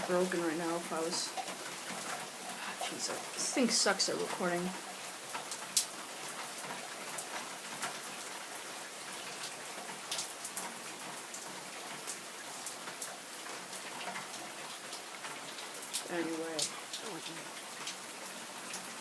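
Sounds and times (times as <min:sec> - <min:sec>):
heavy rain hissing: 0:00.0 - 0:19.0
raindrops tapping: 0:00.0 - 0:19.0.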